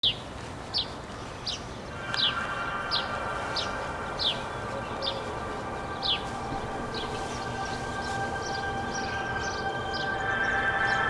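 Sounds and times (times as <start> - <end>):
steady held tone: 2.0 - 11.0.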